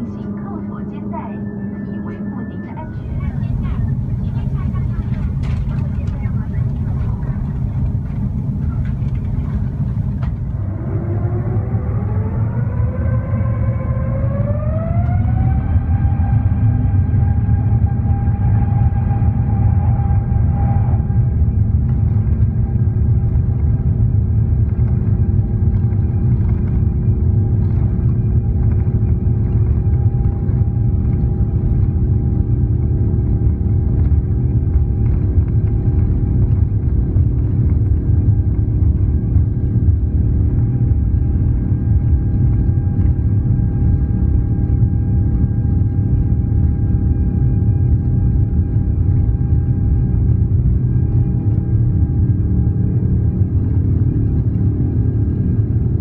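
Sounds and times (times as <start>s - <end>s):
faint steady hums: 0.0s - 56.0s
jet engines low rumble: 0.0s - 56.0s.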